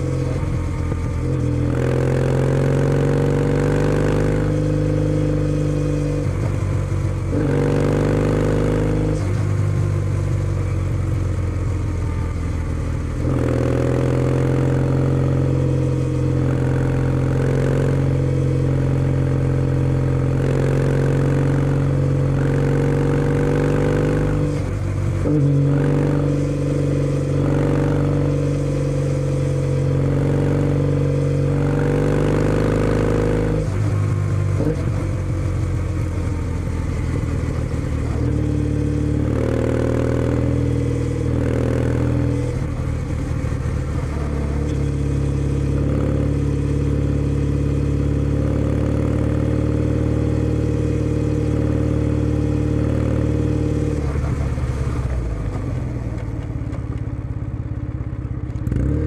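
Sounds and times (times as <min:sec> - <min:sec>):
motorcycle engine riding: 0:00.0 - 0:59.0.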